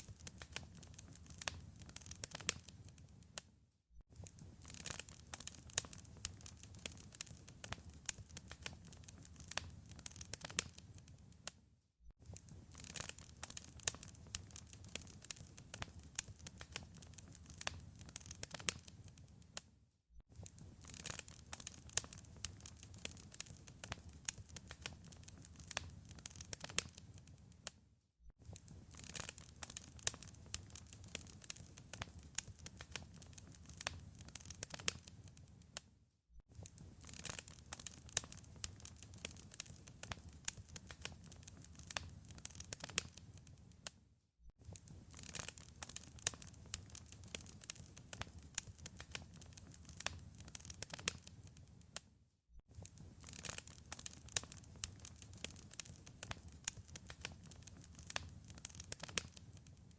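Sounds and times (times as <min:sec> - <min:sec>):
fire crackling and popping: 0:00.0 - 0:03.4, 0:04.1 - 0:11.6, 0:12.2 - 0:19.7, 0:20.3 - 0:27.8, 0:28.4 - 0:35.8, 0:36.5 - 0:44.0, 0:44.6 - 0:52.0, 0:52.7 - 0:59.9.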